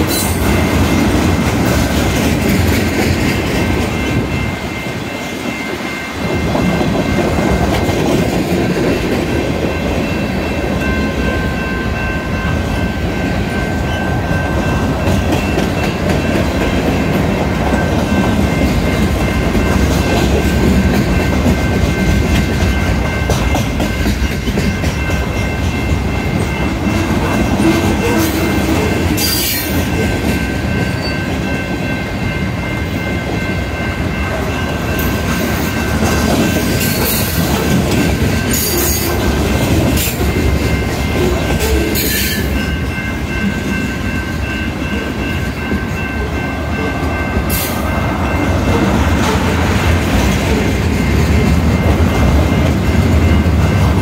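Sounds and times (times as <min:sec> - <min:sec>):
crossing signal bell ringing: 0:00.0 - 0:54.0
freight train wheels rumbling: 0:00.0 - 0:54.0.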